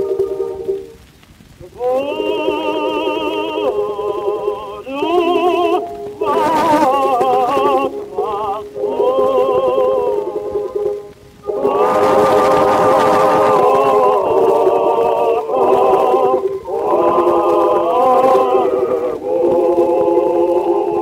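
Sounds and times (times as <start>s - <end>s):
vocal quartet singing in harmony: 1.7s - 21.0s.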